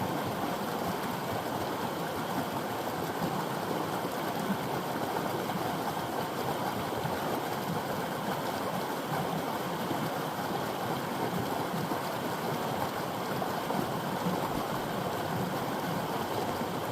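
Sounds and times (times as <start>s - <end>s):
creek water rushing over rocks: 0.0s - 16.9s.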